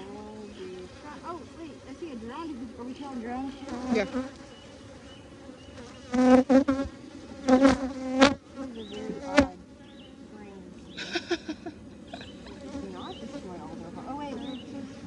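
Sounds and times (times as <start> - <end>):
bee passing close by: 0.0 - 15.0
bees buzzing around hive: 0.0 - 15.0.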